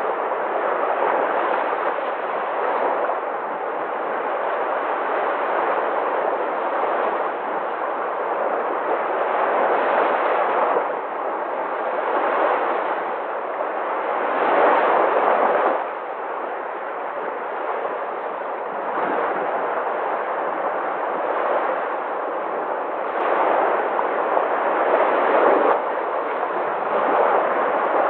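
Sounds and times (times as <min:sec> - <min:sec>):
sea waves washing in: 0:00.0 - 0:28.0.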